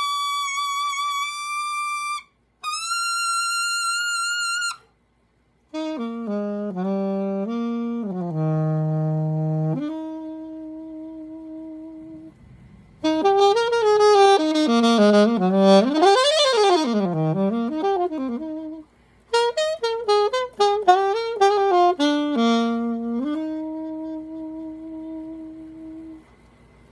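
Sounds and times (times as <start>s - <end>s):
alto saxophone playing jazz: 0.0s - 4.9s, 5.7s - 26.7s.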